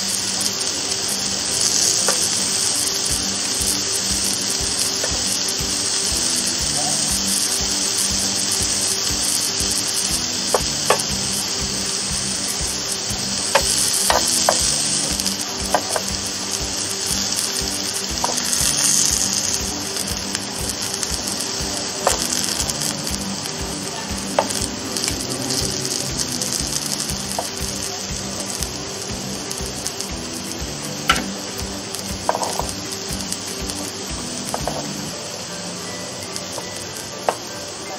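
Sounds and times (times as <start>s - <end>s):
vegetables sizzling on a grill: 0.0s - 37.9s.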